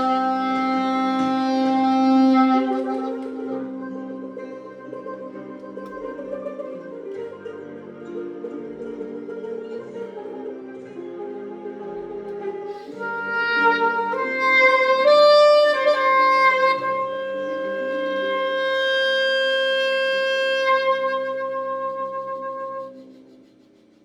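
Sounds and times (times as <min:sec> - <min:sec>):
alto saxophone playing: 0:00.0 - 0:08.2, 0:09.8 - 0:23.4
backing track: 0:00.0 - 0:23.5.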